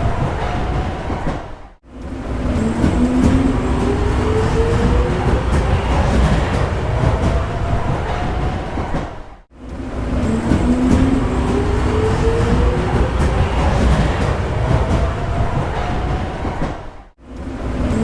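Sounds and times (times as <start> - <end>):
subway train rumble and whine: 0.0 - 18.0.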